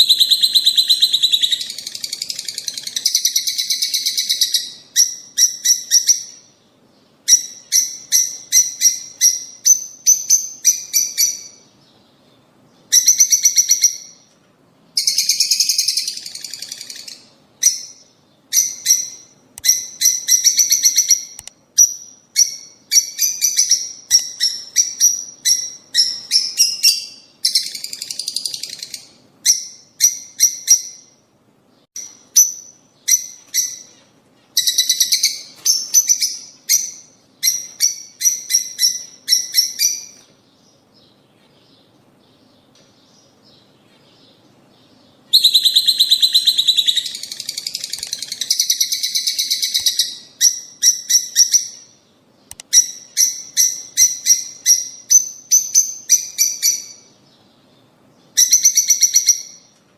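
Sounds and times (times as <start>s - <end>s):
lovebirds chirping: 0.0s - 59.8s.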